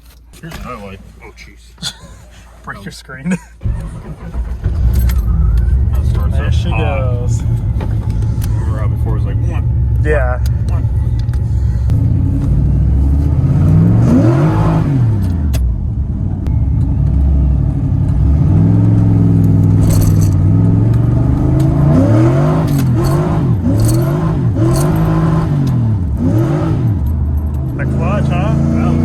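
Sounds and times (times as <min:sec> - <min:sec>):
engine revving: 0:03.6 - 0:29.0.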